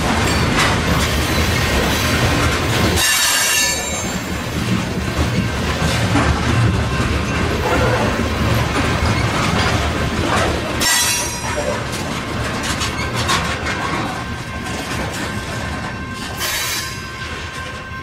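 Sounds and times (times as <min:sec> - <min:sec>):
train wheels rumbling and clacking: 0:00.0 - 0:18.0.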